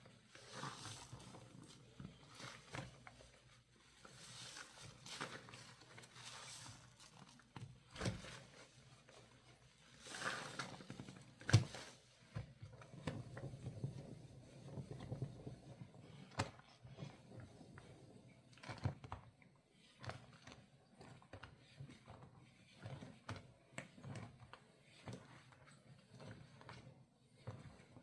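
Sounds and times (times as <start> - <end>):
hands squeezing wet laundry: 0.0 - 28.0.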